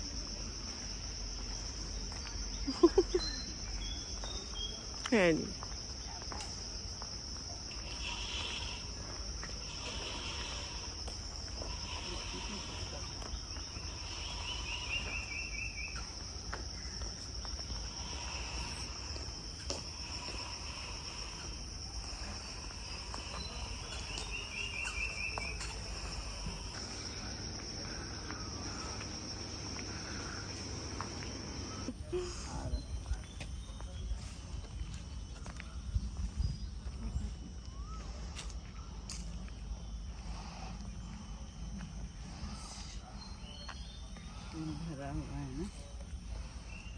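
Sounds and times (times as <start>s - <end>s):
insects chorus: 0.0s - 46.9s.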